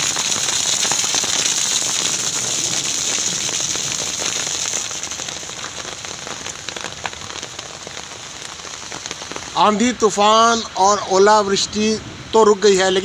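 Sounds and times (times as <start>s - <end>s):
heavy rain on wet pavement: 0.0s - 13.0s.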